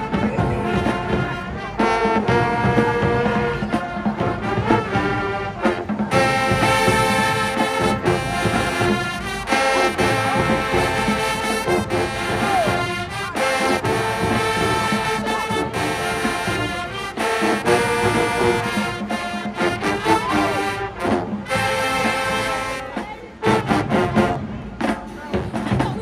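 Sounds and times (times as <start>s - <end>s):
brass chords: 0.0s - 26.0s
marching band playing: 0.0s - 26.0s.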